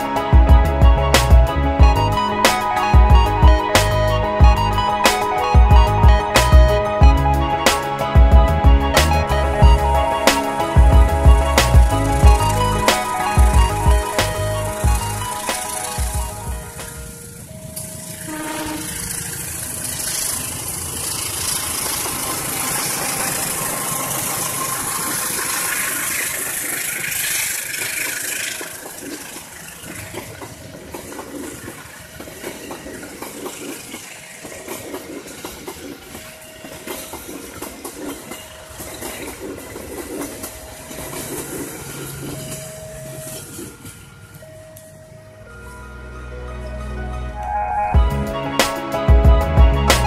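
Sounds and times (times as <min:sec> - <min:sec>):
train passing: 0:00.0 - 0:50.0.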